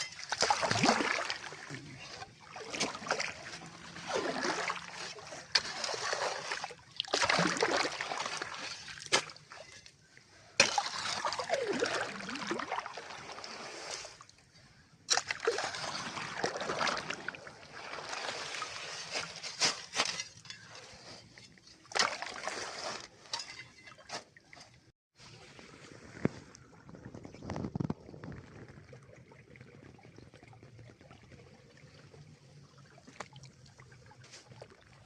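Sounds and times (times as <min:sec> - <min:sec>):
water splashing and sloshing: 0:00.0 - 0:35.0.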